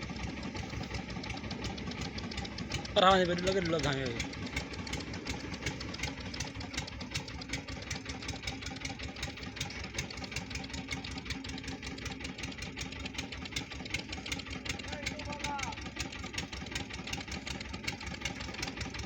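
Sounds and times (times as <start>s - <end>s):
engine running at low speed: 0.0s - 19.0s
regular engine knocking: 0.0s - 19.0s.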